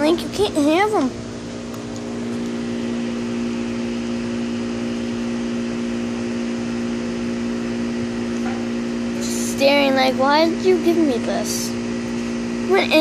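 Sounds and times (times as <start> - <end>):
electric machine humming: 0.0 - 13.0.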